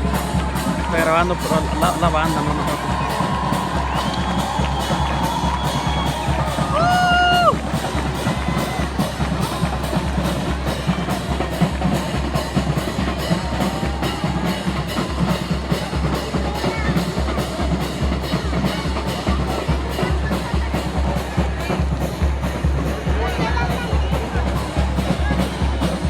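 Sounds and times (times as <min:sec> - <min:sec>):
band playing: 0:00.0 - 0:26.0
bass drum beat: 0:00.0 - 0:26.0.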